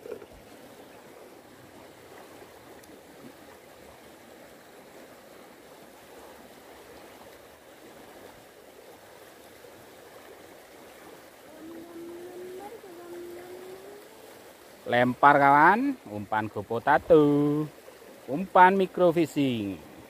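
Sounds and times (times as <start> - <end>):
water babbling in a ditch: 0.0 - 20.0.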